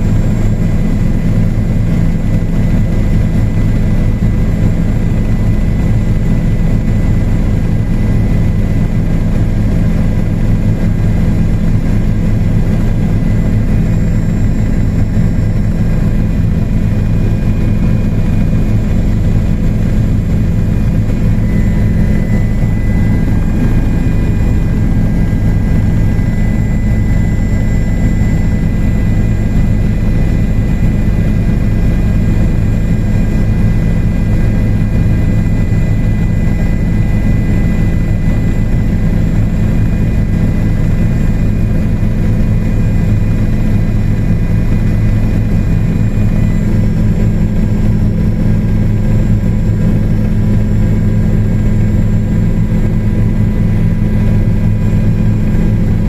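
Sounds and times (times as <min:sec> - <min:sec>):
helicopter engine and rotor: 0:00.0 - 0:56.0
faint high whine: 0:07.9 - 0:56.0.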